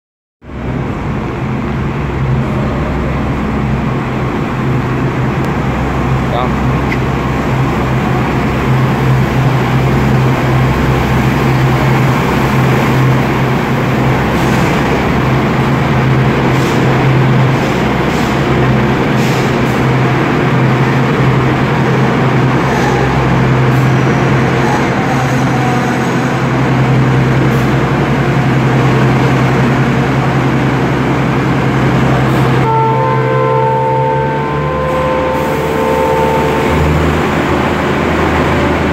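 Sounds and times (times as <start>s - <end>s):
train drone and rumble: 0.4s - 38.9s.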